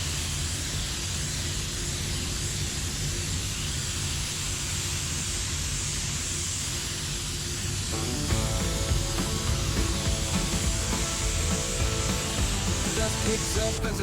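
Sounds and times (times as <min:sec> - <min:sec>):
spray gun air hiss: 0:00.0 - 0:14.0.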